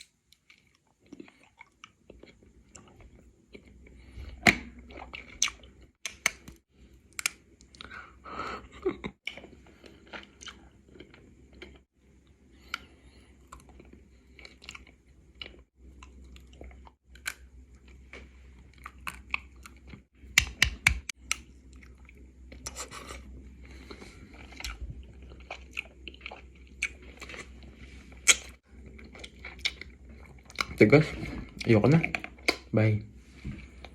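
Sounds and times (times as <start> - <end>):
chewing crunchy wax candy: 0.0 - 20.1, 21.1 - 30.9.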